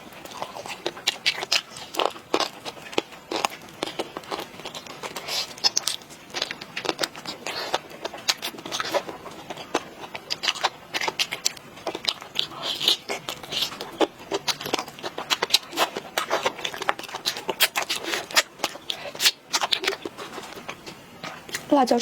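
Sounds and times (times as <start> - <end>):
person chewing and biting food: 0.0 - 21.7.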